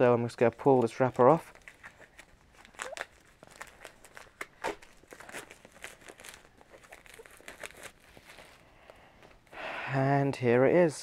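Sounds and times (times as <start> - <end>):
plastic shrink-wrap crinkling: 0.2 - 9.4.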